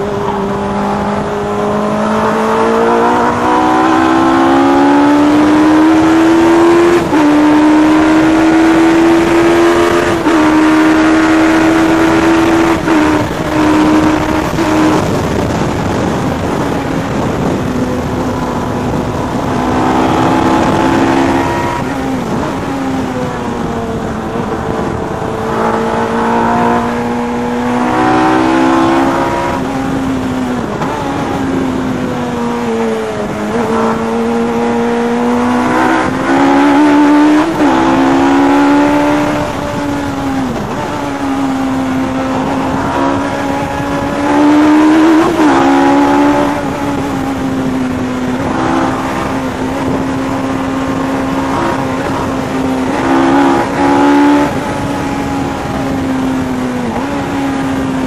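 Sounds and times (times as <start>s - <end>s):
motorcycle engine revving hard: 0.0s - 58.0s.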